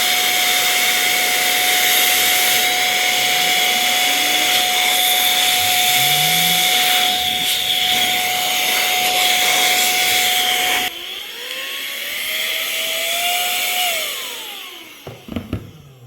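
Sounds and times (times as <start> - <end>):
air duster hissing with whine: 0.0 - 16.0.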